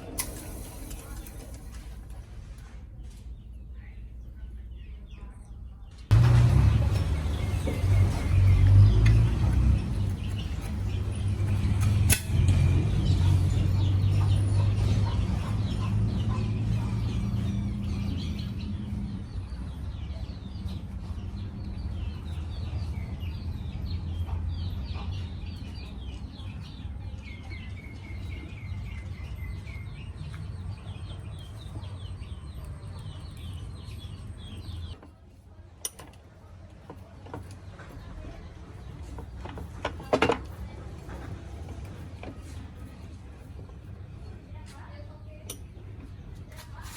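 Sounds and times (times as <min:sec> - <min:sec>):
small birds chirping: 0:00.0 - 0:06.2, 0:06.8 - 0:46.9.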